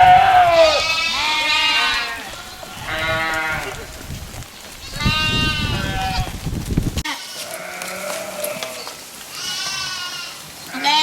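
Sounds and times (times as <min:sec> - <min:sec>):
sheep bleating: 0:00.0 - 0:03.9, 0:04.8 - 0:06.4, 0:07.0 - 0:11.0.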